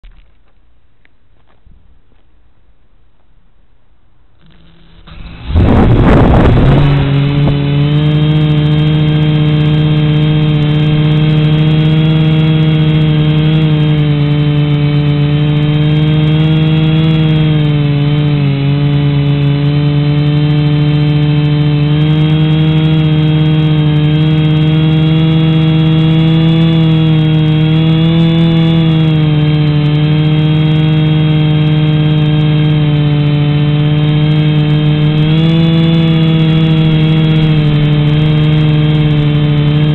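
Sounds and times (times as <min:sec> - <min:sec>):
drone propellers whining: 0:04.4 - 0:19.6, 0:20.4 - 0:39.9.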